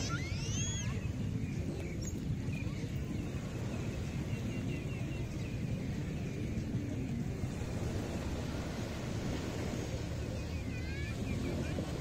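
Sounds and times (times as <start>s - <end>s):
ocean surf on beach: 0.0s - 12.0s
wind on microphone: 0.0s - 12.0s.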